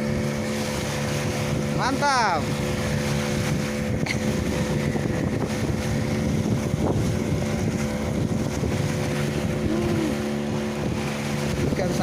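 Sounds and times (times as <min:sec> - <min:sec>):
boat motor humming: 0:00.0 - 0:12.0
wind buffeting microphone: 0:00.0 - 0:12.0.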